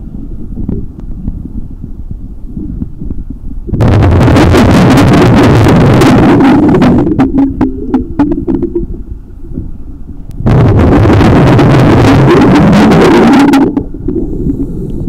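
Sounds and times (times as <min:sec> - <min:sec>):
underwater air bubbles rushing: 0:02.6 - 0:15.0.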